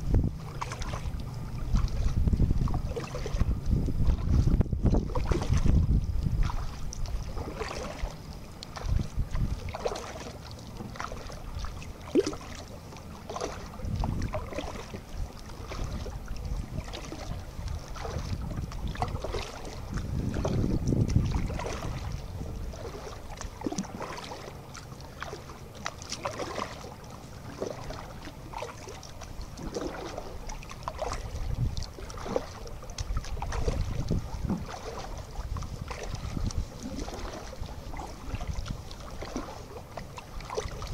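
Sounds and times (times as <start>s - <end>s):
wind rumble on microphone: 0.0s - 24.5s, 27.5s - 40.9s
paddle splashes and hull knocks: 0.0s - 40.9s.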